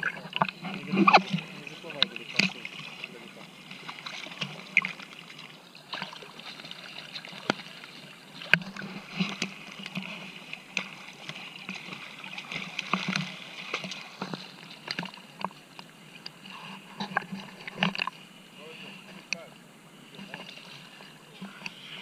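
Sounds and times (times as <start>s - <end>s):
water splashing and lapping: 0.0s - 22.0s.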